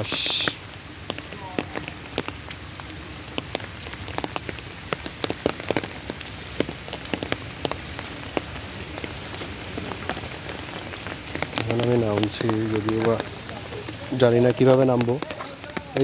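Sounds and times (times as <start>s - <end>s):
sharp ticks of raindrops: 0.0s - 16.0s
steady rain hiss: 0.0s - 16.0s.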